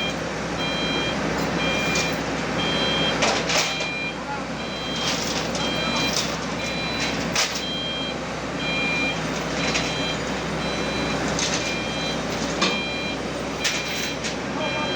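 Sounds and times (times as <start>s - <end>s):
diesel engine running: 0.0s - 14.9s
travel alarm beeping: 0.0s - 14.9s.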